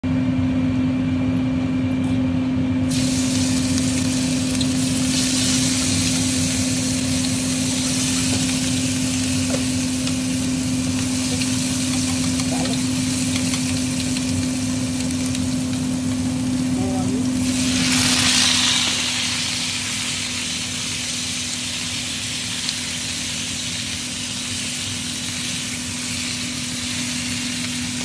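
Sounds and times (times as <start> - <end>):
steady low hum: 0.0 - 28.0
garlic sizzling in hot oil: 2.8 - 28.0.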